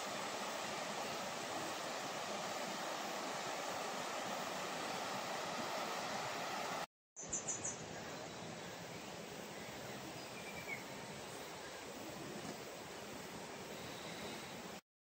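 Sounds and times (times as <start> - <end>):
outdoor ambient hiss: 0.0 - 14.8.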